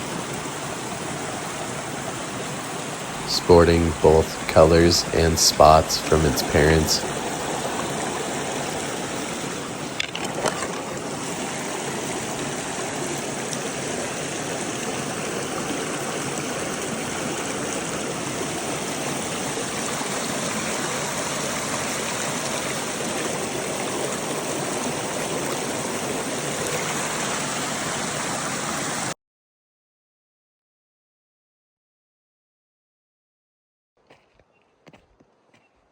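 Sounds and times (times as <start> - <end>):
creek water running over rocks: 0.0 - 29.1.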